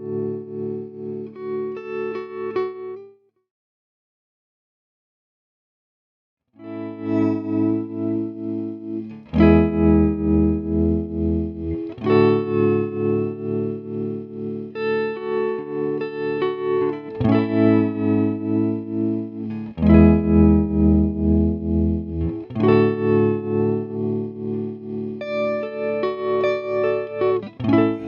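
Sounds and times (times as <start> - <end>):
electric guitar chords pulsing: 0.0 - 2.9, 6.6 - 28.0.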